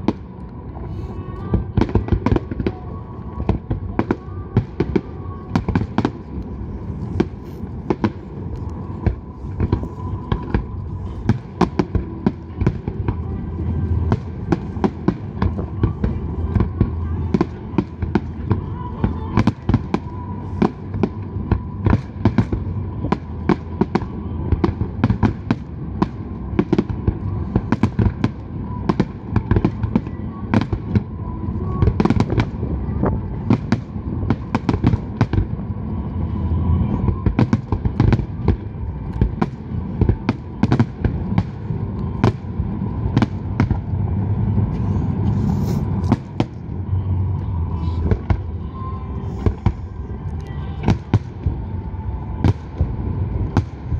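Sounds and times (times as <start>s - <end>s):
low rumble: 0.0s - 53.9s.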